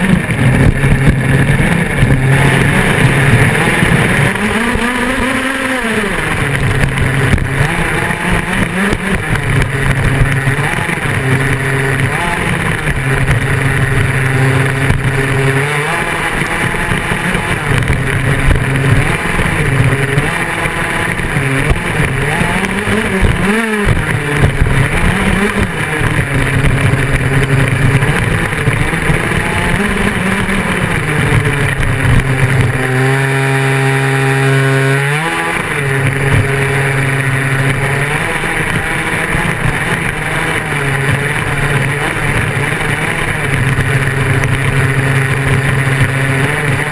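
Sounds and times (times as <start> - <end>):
rc buggy engine buzzing: 0.0 - 46.9.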